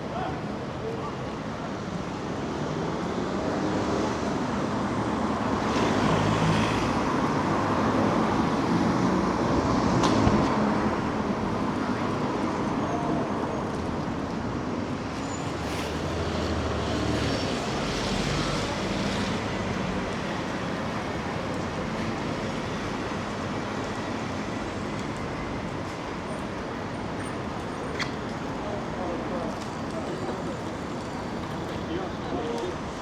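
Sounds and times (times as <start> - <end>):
vehicles passing with tyre hiss: 1.8 - 13.2, 14.4 - 33.0.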